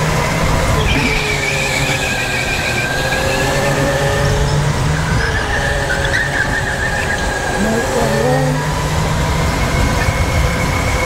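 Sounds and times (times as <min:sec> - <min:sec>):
go-kart running: 0:00.0 - 0:11.0.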